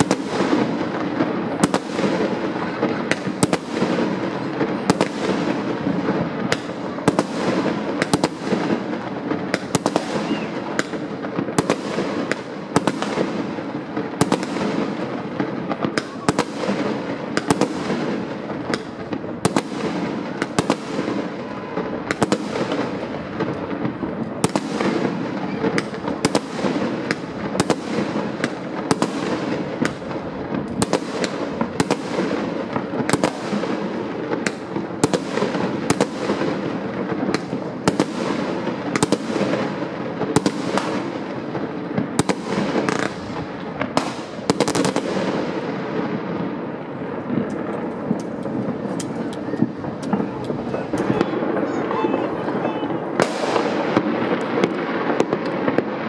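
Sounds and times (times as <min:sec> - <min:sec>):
distant fireworks crackle and rumble: 0:00.0 - 0:56.0
sharp firework bangs: 0:00.0 - 0:56.0.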